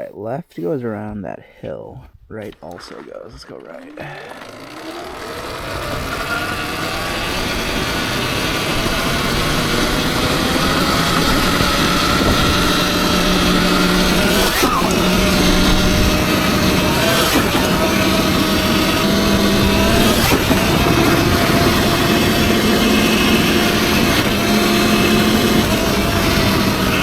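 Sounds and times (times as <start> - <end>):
electric motor whining: 3.5 - 27.0.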